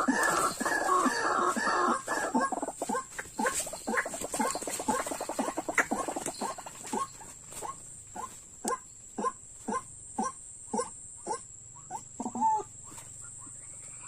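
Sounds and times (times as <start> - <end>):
bird croaking call: 0.0 - 14.0.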